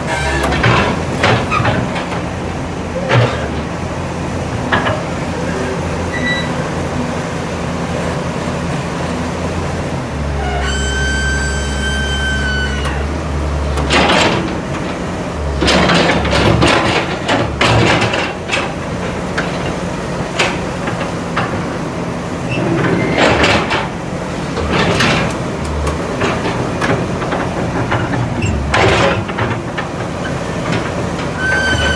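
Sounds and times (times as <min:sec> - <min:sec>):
excavator engine running: 0:00.0 - 0:31.9.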